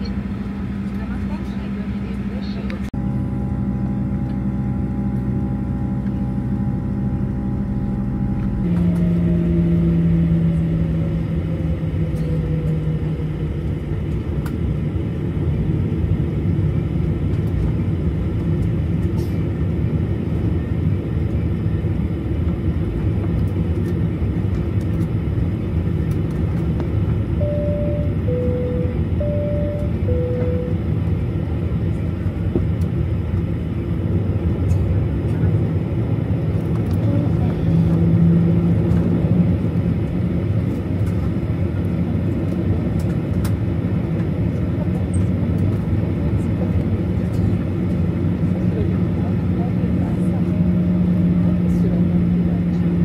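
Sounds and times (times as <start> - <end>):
steady hum: 0.0 - 53.0
vehicle engine rumble: 0.0 - 53.0.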